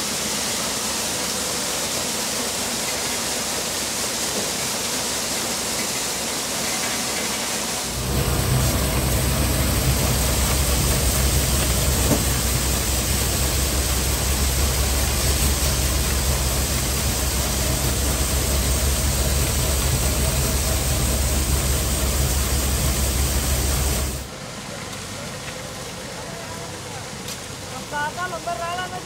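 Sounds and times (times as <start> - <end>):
kernels pouring hiss: 0.0 - 24.3
tractor engine drone: 1.1 - 29.0.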